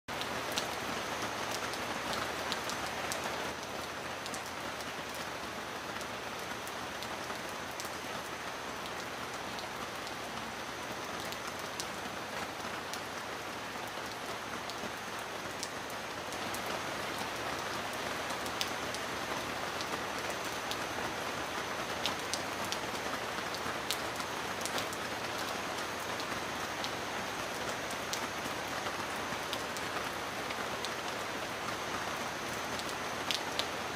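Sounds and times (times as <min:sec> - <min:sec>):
heavy rain on a metal roof: 0:00.1 - 0:33.9.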